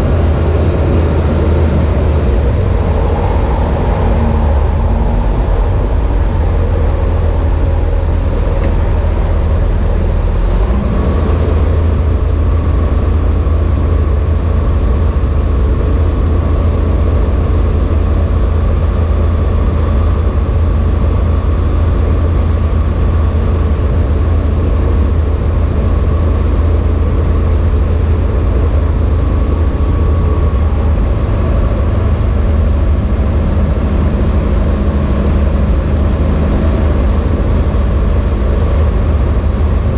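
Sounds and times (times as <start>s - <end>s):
faint steady whine: 0.0s - 39.9s
light aircraft engine drone: 0.0s - 39.9s.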